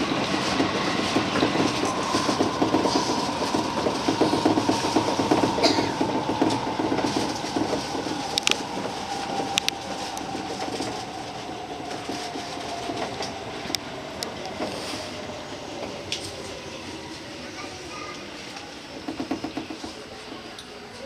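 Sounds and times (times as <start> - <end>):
electric train motor whine: 0.0 - 17.9
train running noise: 0.0 - 21.0
wheels clicking over rail joints: 0.0 - 21.0.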